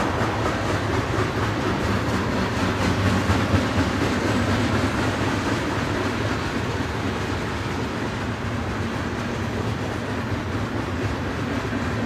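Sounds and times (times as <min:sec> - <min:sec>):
diesel locomotive drone: 0:00.0 - 0:12.0
train wheels rattling on rails: 0:00.0 - 0:12.0.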